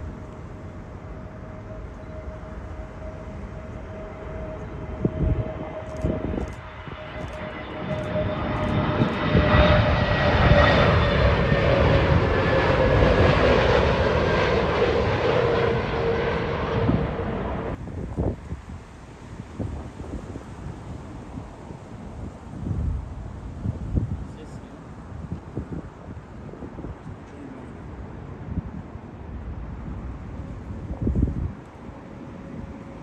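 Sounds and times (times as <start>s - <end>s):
jet airliner flying overhead: 0.0s - 33.0s.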